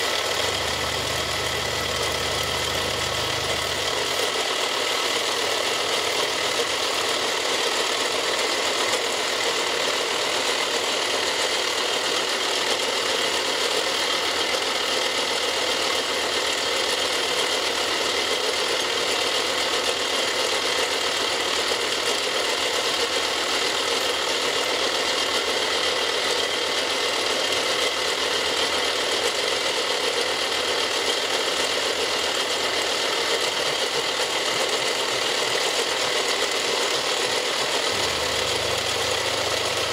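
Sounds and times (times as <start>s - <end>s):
milling machine cutting plastic: 0.0s - 39.9s.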